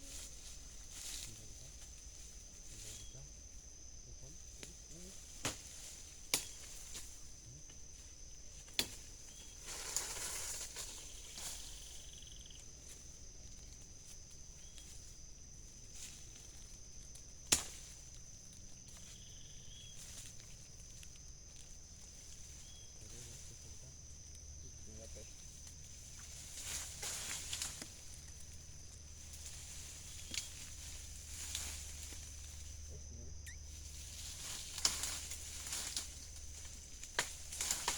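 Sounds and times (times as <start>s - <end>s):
high insect drone: 0.0s - 37.9s
short insect chirps: 0.0s - 37.9s.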